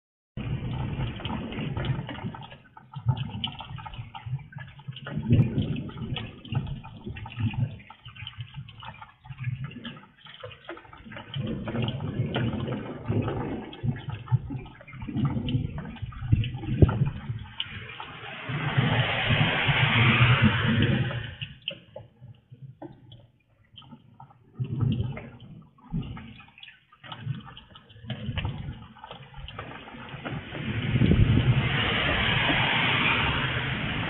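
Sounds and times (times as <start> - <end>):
rain pouring and splashing: 0.4 - 22.2, 24.4 - 34.0.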